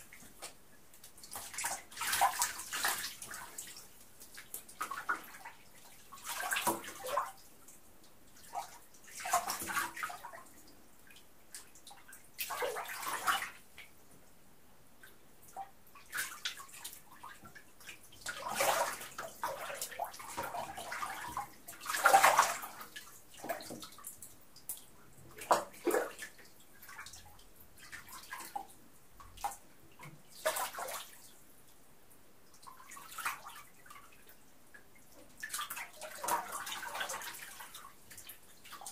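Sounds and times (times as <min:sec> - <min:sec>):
water splashing in bathtub: 0:00.0 - 0:14.0, 0:15.0 - 0:31.4, 0:32.5 - 0:38.9.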